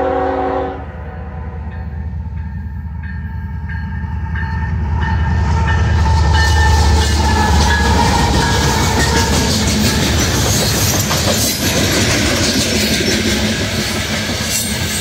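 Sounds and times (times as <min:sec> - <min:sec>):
diesel locomotive engine rumble: 0:00.0 - 0:15.0
train wheels on rails: 0:01.7 - 0:15.0.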